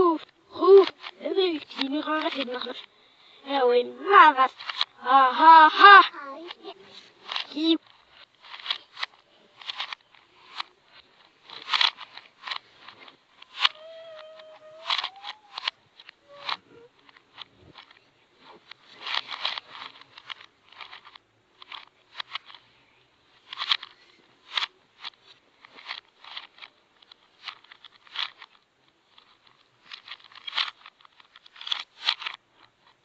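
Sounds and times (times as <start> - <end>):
plastic puzzle cube pieces clicking: 0.1 - 2.9, 4.4 - 22.8, 23.4 - 33.0.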